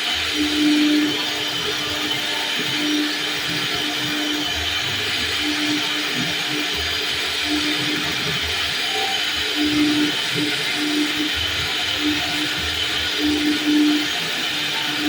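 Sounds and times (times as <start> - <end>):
wood router spindle whirring: 0.0 - 15.0.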